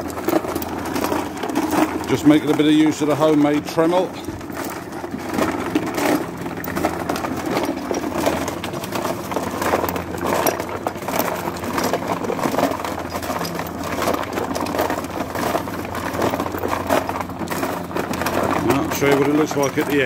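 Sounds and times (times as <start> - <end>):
motor hum: 0.0 - 20.0
stones rattling in turning drum: 0.0 - 20.0.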